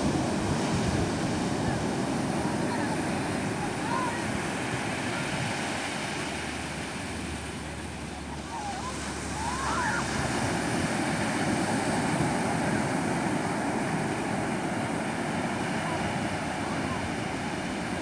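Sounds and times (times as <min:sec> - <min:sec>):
waves breaking on beach: 0:00.0 - 0:18.0.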